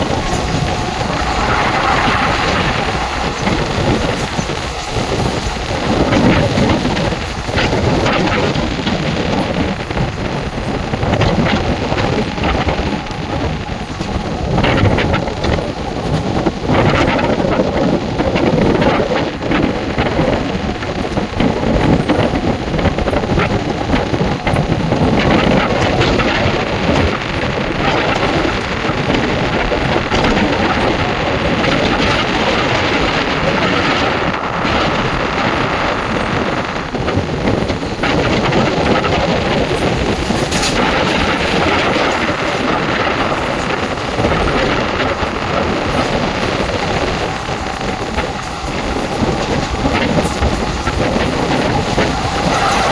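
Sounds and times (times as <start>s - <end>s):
rushing air: 0.0s - 52.9s
train wheels rumbling on rails: 0.0s - 52.9s.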